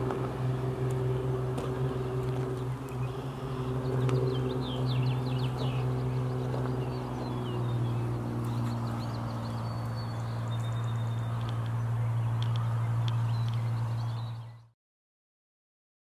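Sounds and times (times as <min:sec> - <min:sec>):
steady low hum: 0:00.0 - 0:14.7
small birds chirping: 0:00.6 - 0:14.7.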